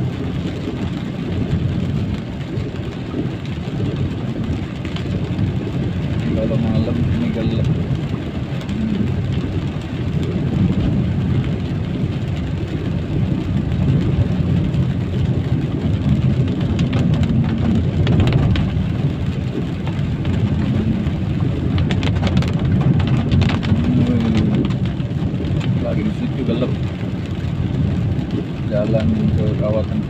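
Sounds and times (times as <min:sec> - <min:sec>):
rain: 0:00.0 - 0:30.0
tyres on wet road: 0:00.0 - 0:30.0
vehicle engines rumbling: 0:00.0 - 0:30.0.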